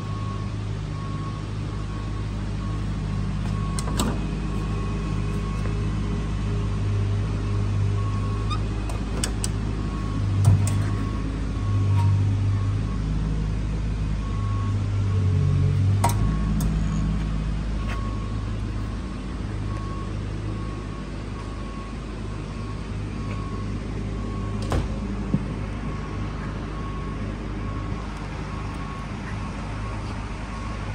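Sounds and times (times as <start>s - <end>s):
low machinery hum: 0.0s - 30.9s.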